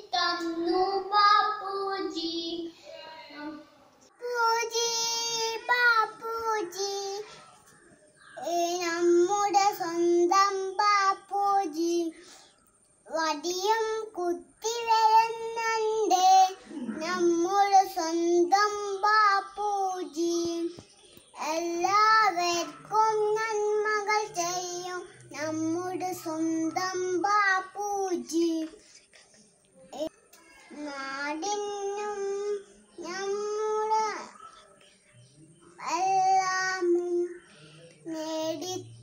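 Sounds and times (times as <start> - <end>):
child singing: 0.0 - 7.5, 8.4 - 12.4, 13.1 - 28.8, 29.9 - 34.8, 35.8 - 39.0.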